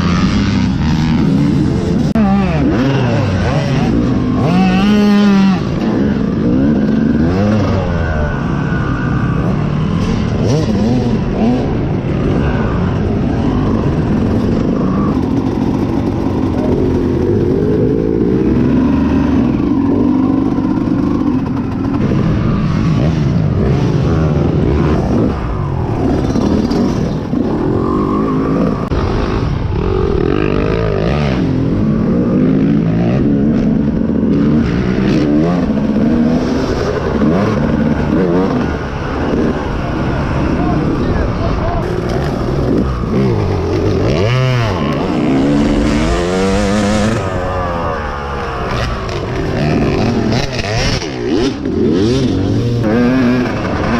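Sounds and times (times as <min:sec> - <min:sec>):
dirt bike engine racing: 0:00.0 - 0:53.9.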